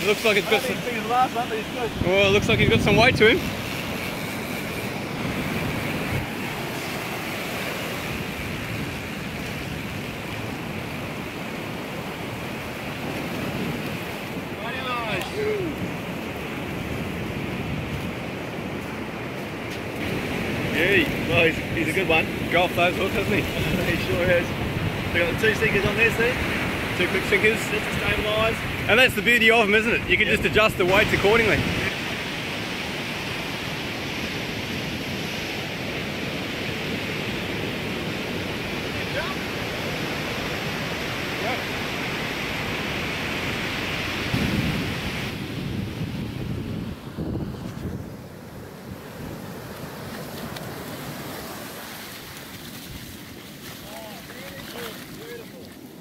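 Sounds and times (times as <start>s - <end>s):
surf breaking on sandy beach: 0.0s - 56.0s.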